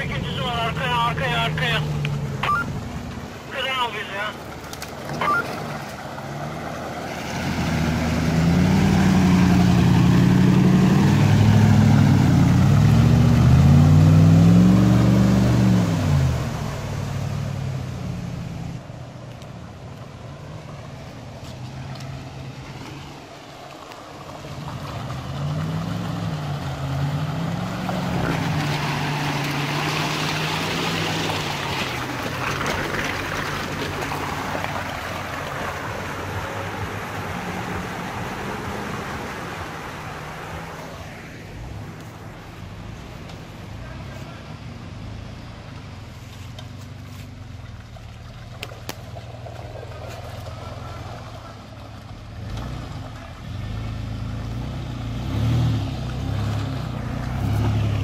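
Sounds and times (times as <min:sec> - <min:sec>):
vehicle engine revving: 0:00.0 - 0:18.8, 0:24.2 - 0:43.2, 0:48.5 - 0:58.0.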